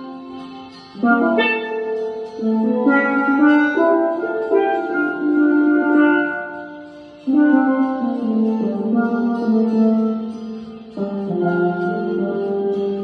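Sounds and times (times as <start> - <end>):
steel pans playing slow melody: 0.0 - 13.0.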